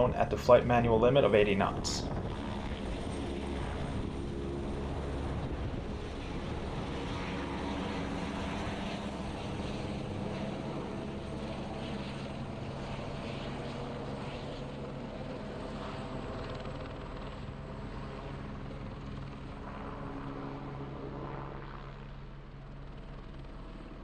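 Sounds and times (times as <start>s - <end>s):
helicopter flying: 0.0s - 24.0s.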